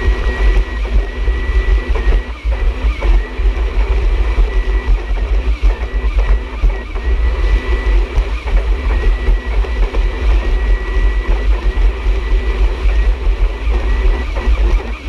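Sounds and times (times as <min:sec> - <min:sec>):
jet ski engine whine: 0:00.0 - 0:15.0.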